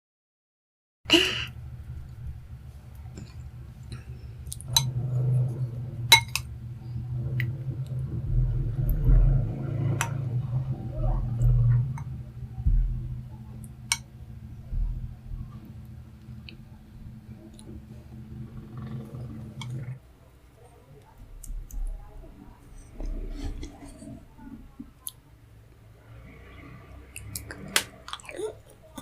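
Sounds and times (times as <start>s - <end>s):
low hum: 1.1s - 28.2s.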